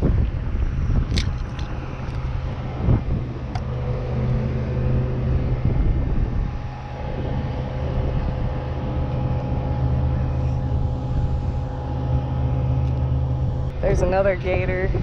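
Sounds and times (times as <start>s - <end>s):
distant engine rumbling: 0.0s - 15.0s.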